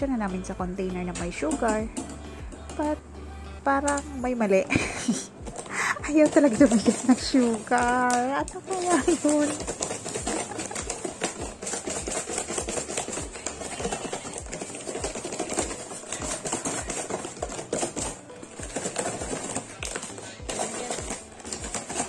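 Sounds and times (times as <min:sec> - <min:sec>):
background music: 0:00.0 - 0:22.0
food rattling in plastic container: 0:01.1 - 0:03.0, 0:05.4 - 0:22.0.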